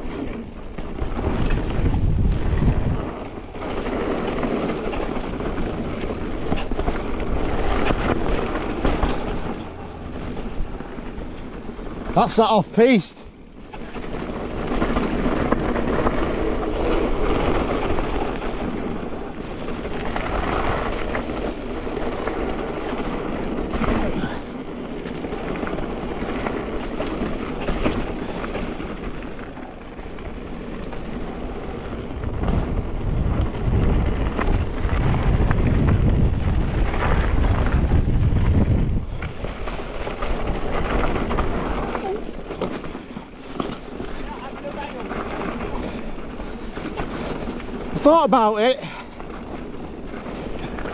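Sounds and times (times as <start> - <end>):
bike tyre roar and rattle: 0.0 - 50.9
wind rumbling on microphone: 0.0 - 50.9.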